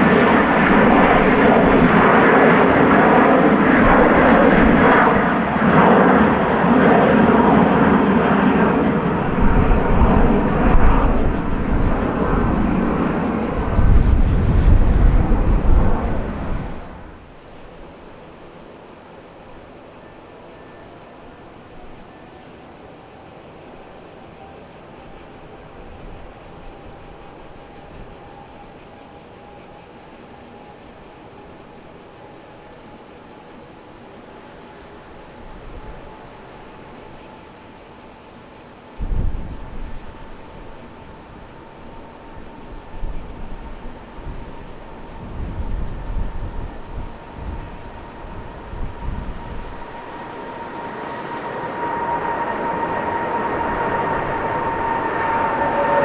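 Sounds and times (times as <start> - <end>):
distant jet engine whine: 0.0 - 56.0
insects chirring: 0.0 - 56.0.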